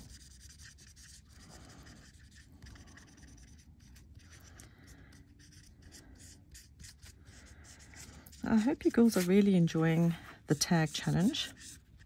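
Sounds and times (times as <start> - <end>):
marker scratching on metal foil: 0.0 - 12.0.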